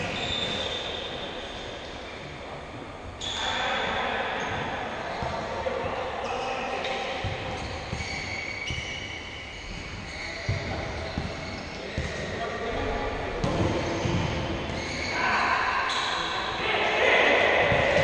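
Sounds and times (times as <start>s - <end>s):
sneakers squeaking on floor: 0.0s - 2.4s, 3.0s - 12.7s, 13.4s - 16.7s, 17.4s - 18.0s.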